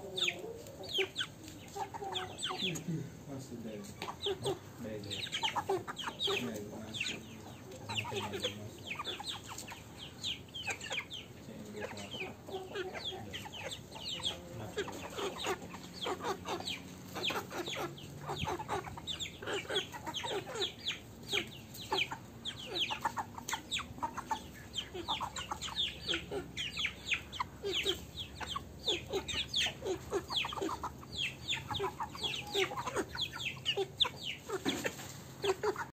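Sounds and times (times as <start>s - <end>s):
chickens clucking and peeping: 0.0s - 36.0s.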